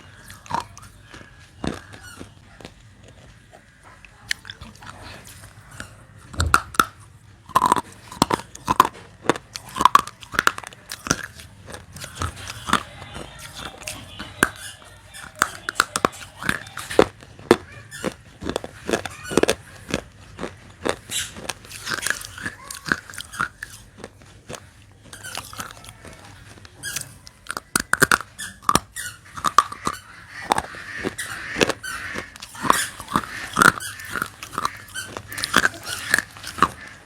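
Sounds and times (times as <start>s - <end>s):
clay being chewed with crunches: 0.0s - 37.0s.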